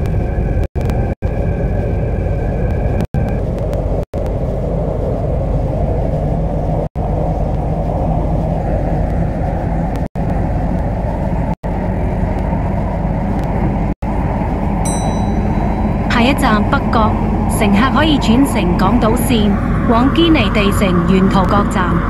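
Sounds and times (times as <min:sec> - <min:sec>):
electric train rumbling on rails: 0:00.0 - 0:22.0.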